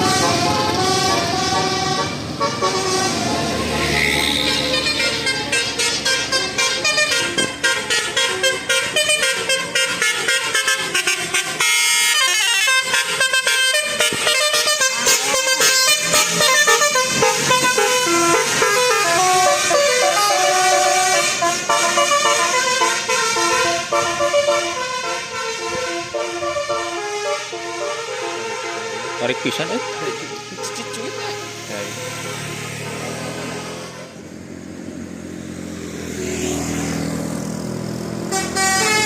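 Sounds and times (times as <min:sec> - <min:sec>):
multi-tone bus air horn: 0:00.0 - 0:34.2, 0:38.2 - 0:39.0.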